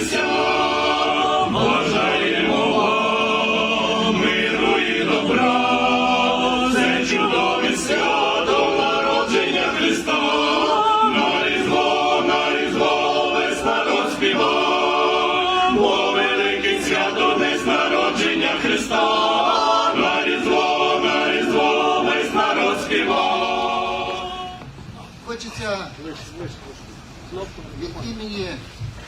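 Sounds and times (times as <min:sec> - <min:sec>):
choir singing a cappella: 0:00.0 - 0:24.8.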